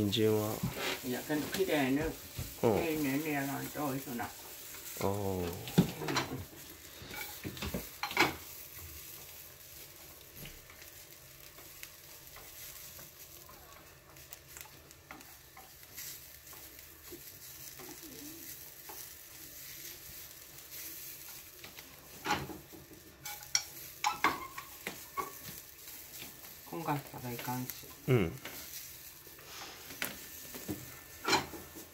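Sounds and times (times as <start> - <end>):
vegetables sizzling in a frying pan: 0.0 - 31.9.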